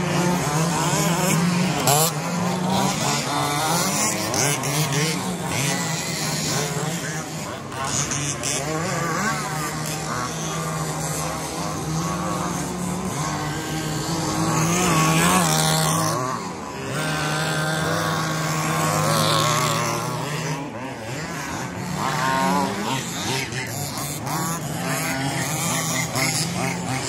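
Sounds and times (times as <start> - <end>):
rc car motor whines: 0.0 - 27.0.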